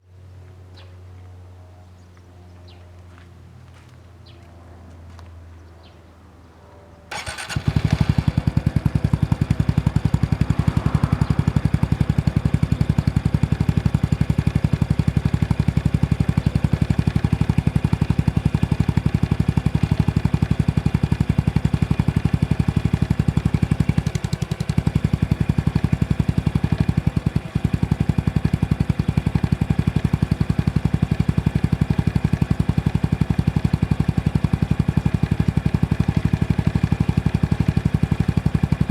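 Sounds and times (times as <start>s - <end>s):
engine clattering: 7.1s - 38.9s
motorcycle engine starting and idling: 7.1s - 38.9s.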